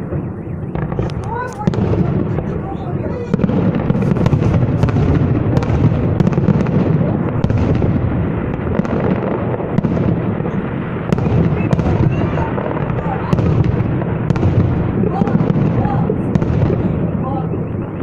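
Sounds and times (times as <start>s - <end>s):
fireworks booming: 0.0s - 18.0s
fireworks cracking: 0.0s - 18.0s.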